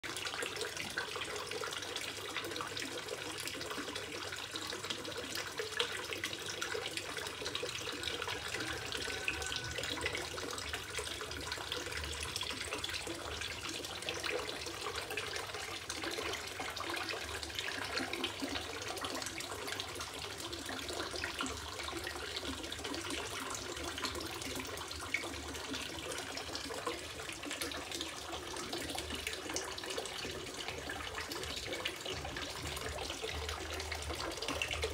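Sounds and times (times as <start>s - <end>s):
fountain water splashing into pond: 0.0s - 34.9s.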